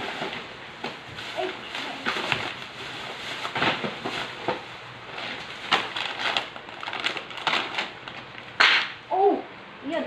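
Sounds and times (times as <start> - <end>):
plastic bags crinkling: 0.0 - 8.8.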